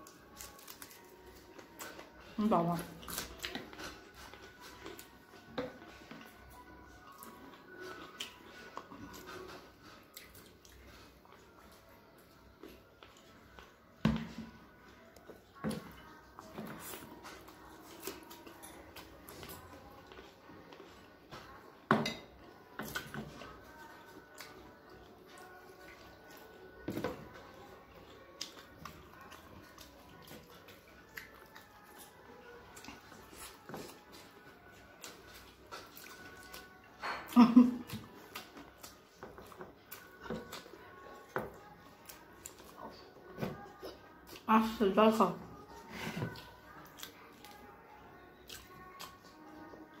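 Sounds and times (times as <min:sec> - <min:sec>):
chewing and lip-smacking: 0:00.0 - 0:14.0, 0:14.9 - 0:21.8, 0:22.6 - 0:44.8, 0:45.5 - 0:50.0
fingers mixing food: 0:00.0 - 0:50.0.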